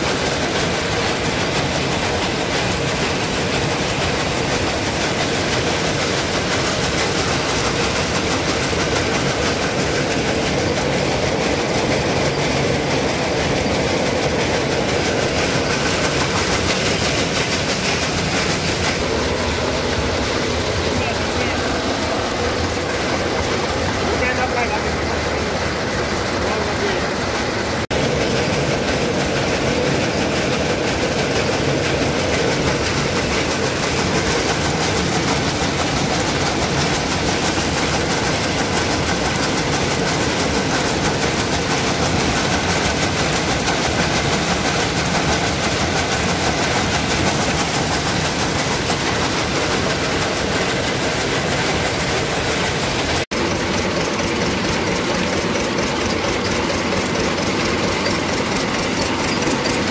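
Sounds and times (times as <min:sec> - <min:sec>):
shelling machine drone: 0:00.0 - 0:59.9.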